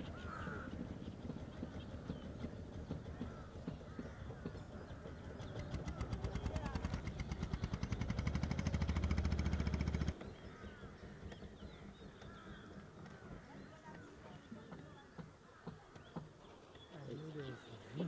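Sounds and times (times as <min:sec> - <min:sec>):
small engine puttering: 0:00.0 - 0:16.9
gulls calling: 0:00.0 - 0:18.0.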